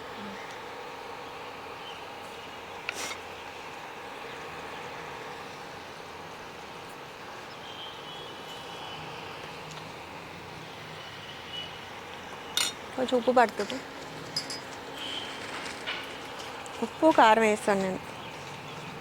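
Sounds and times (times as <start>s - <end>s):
pot simmering hiss: 0.0s - 19.0s.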